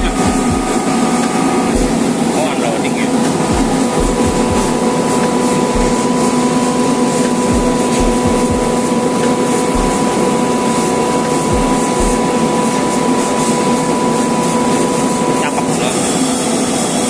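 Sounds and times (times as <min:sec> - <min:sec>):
air compressor droning: 0:00.0 - 0:17.0.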